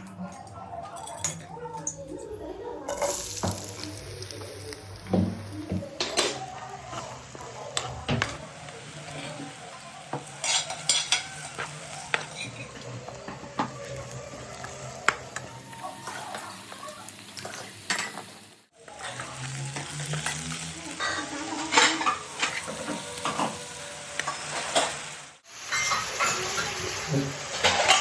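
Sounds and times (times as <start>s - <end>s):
chicken sizzling in a pan: 2.6s - 28.0s.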